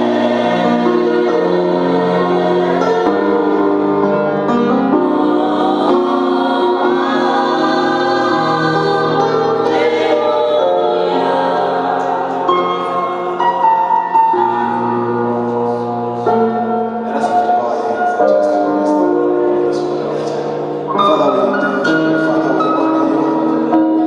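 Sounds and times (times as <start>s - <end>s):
choir singing gospel chords: 0.0s - 24.0s.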